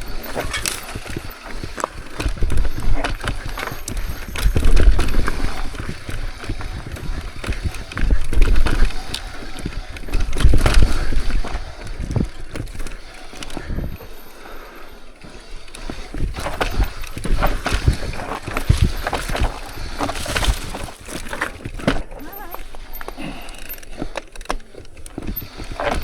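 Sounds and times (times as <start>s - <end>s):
bike rattling: 0.0s - 26.0s
bike tyres rumbling over rock: 0.0s - 26.0s.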